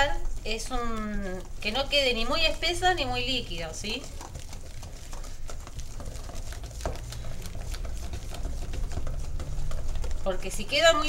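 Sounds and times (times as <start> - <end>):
whisk beating batter in bowl: 0.0 - 11.0.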